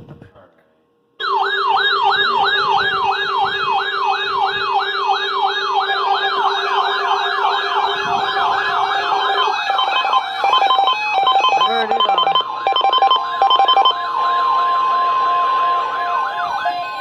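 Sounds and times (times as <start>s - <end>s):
electronic alert siren: 1.2s - 17.0s.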